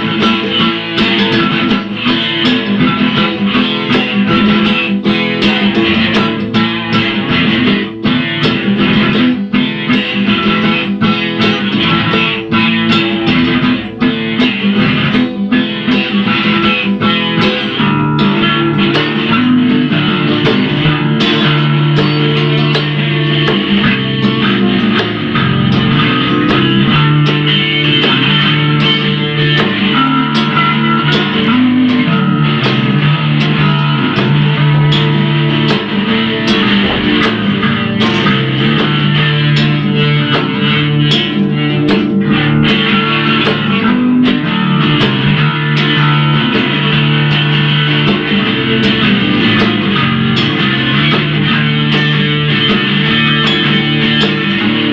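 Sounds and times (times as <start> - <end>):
bass line: 0.0 - 54.9
held guitar notes: 0.0 - 54.9
strummed guitar chords: 0.0 - 54.9.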